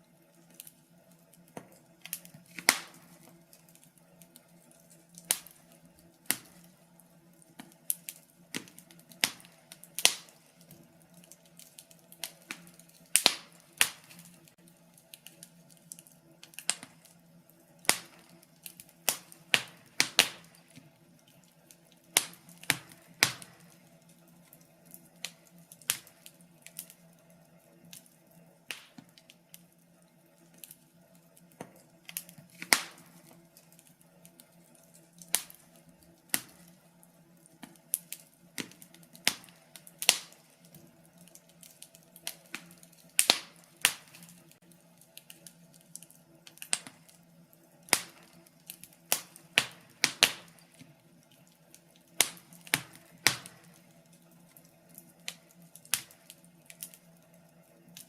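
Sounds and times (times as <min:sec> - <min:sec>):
faint steady hiss: 0:00.0 - 0:58.0
wood fire crackling: 0:00.0 - 0:58.0.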